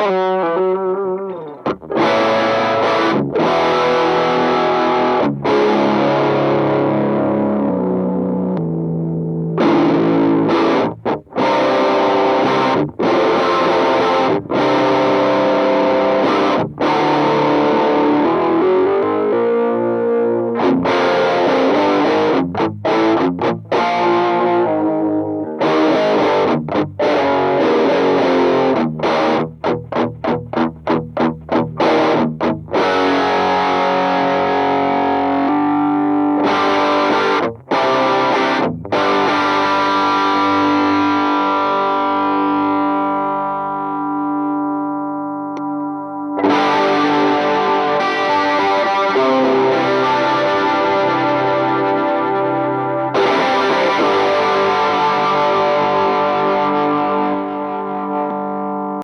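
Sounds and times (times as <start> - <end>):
distorted electric guitar riff: 0.0 - 59.0.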